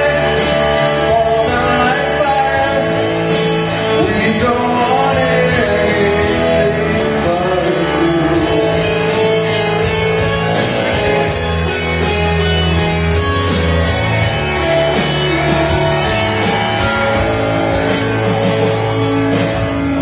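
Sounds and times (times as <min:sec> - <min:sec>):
instrumental worship band music: 0:00.0 - 0:20.0
lead guitar: 0:00.0 - 0:20.0
steady bass: 0:00.0 - 0:20.0.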